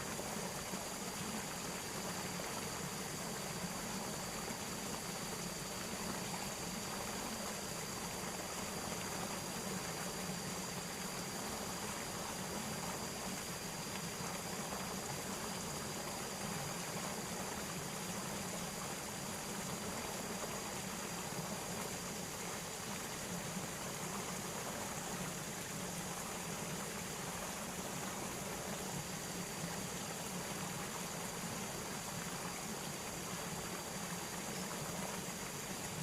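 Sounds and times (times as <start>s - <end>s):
flowing water rushing: 0.0s - 36.0s.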